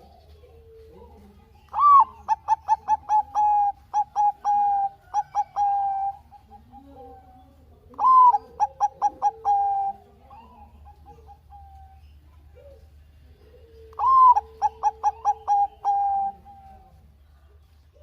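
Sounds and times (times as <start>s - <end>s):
dove cooing: 0.0s - 17.2s.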